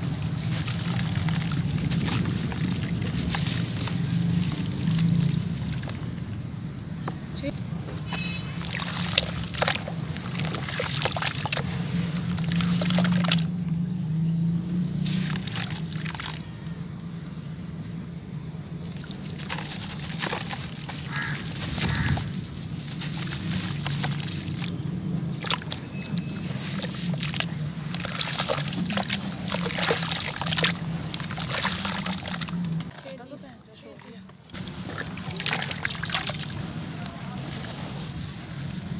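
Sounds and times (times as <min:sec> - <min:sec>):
hands sloshing wet cement in water: 0:00.0 - 0:06.1, 0:08.1 - 0:13.6, 0:14.7 - 0:16.5, 0:18.8 - 0:33.2, 0:33.8 - 0:38.9
water splashing and dripping: 0:00.0 - 0:06.4, 0:07.9 - 0:13.8, 0:14.6 - 0:17.0, 0:18.6 - 0:38.9.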